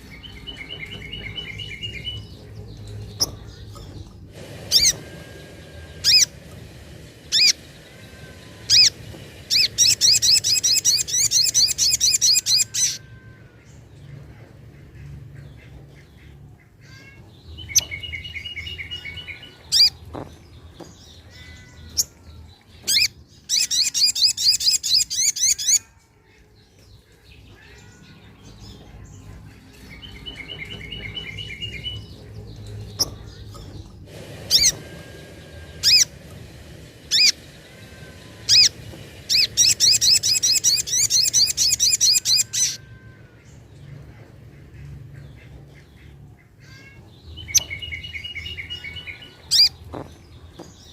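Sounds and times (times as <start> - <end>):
bird singing high trills: 0.0 - 14.5, 16.8 - 25.9, 27.0 - 44.3, 46.6 - 50.9.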